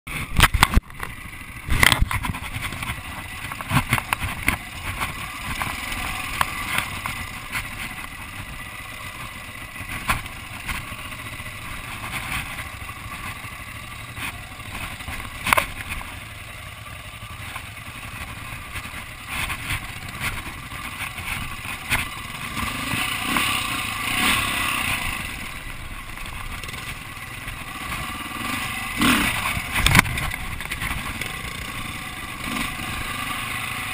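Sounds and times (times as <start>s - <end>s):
knocks and clatter over rocks: 0.1s - 16.2s, 17.1s - 33.9s
dirt bike engine running: 0.1s - 33.9s.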